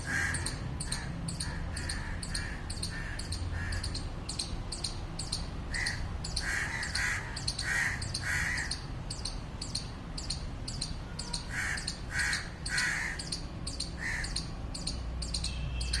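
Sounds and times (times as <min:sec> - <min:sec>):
squirrel barking calls: 0:00.0 - 0:16.0
insect chirping: 0:00.4 - 0:05.5, 0:06.2 - 0:16.0.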